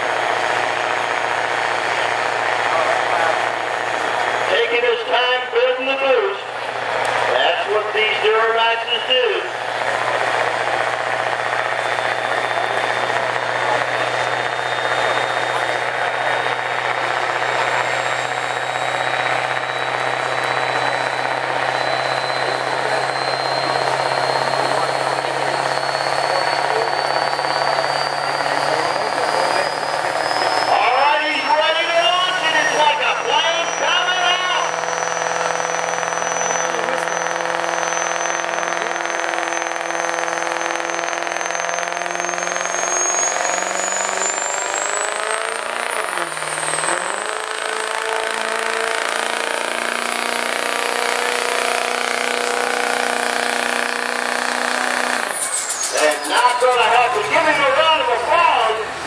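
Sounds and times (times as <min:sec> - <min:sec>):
diesel truck engine running: 0:00.0 - 0:59.0
thin high whine: 0:00.0 - 0:59.0.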